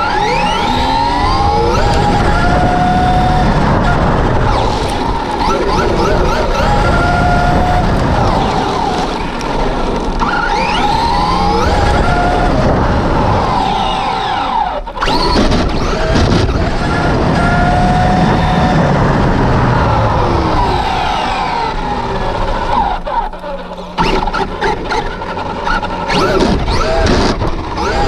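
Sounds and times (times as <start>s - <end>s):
electric motor whining: 0.0s - 28.0s
wind and tyre noise: 0.0s - 28.0s.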